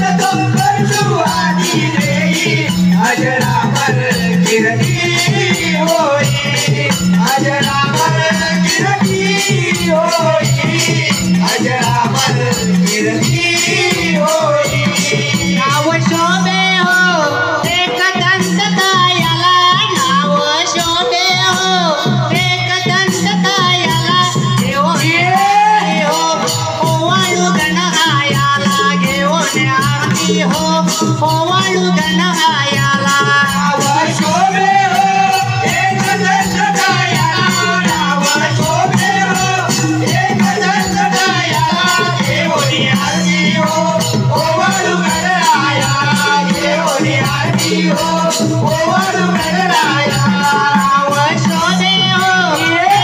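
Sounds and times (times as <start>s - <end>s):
drum beat: 0.0s - 53.0s
person singing: 0.0s - 53.0s
rattling percussion: 0.0s - 53.0s.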